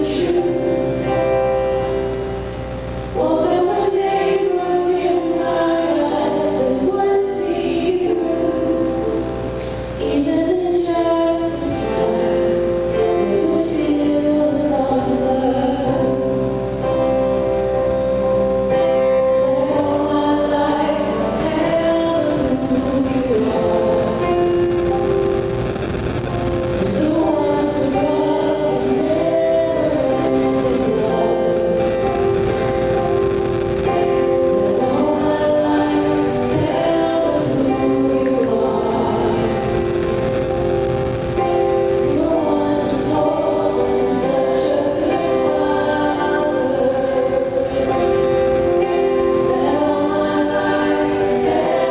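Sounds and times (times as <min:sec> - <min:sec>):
choir singing slow song: 0:00.0 - 0:51.9.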